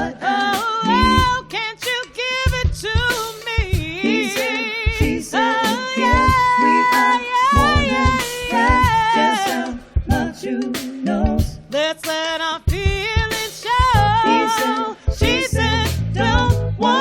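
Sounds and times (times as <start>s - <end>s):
woman singing a pop ballad: 0.0s - 10.6s, 11.2s - 17.0s.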